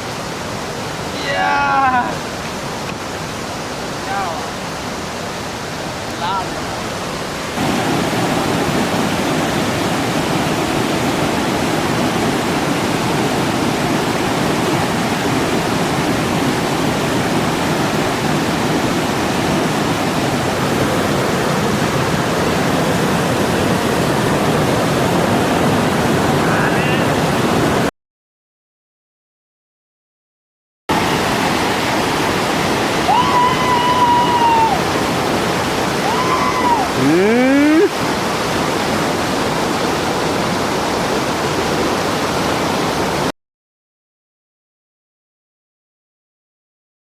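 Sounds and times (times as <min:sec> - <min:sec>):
waterfall roaring: 0:00.0 - 0:27.9, 0:30.9 - 0:43.3.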